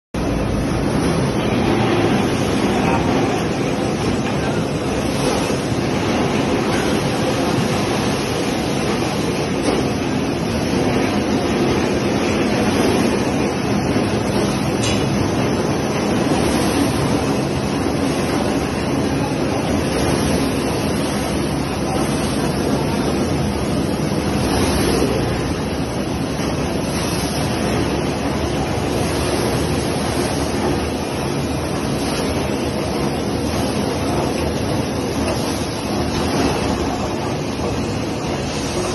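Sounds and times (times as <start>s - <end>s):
churning bubbling water: 0.2s - 38.9s
conveyor machinery hum: 0.2s - 38.9s.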